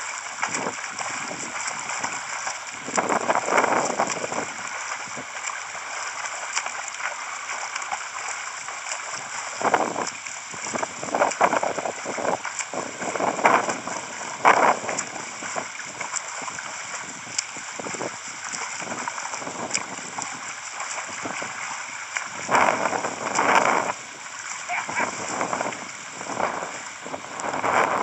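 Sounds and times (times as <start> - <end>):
swimmer's arm strokes splashing: 0.0 - 28.0
water washing and gurgling: 0.0 - 28.0.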